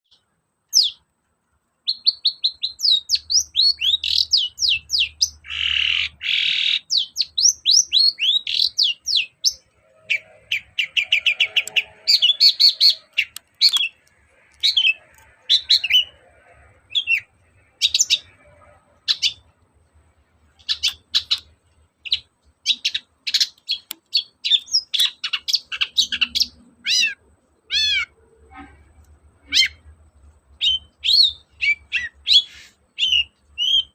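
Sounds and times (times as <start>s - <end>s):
harsh rasping bird call: 1.9s - 19.4s, 22.1s - 29.9s, 30.6s - 33.9s
bird singing rapid high notes: 1.9s - 19.6s, 20.5s - 28.8s, 30.6s - 33.9s.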